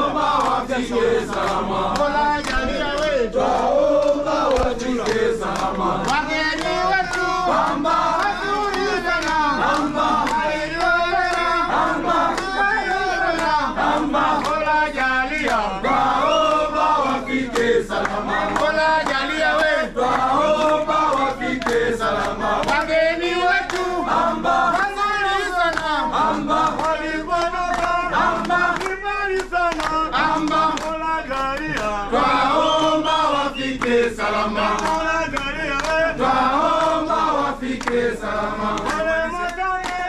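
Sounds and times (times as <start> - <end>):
men singing in chorus: 0.0 - 40.0.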